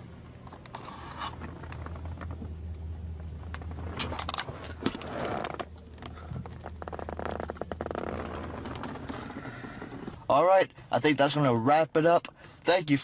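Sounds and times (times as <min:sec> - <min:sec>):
low hum in car cabin: 0:00.0 - 0:13.0.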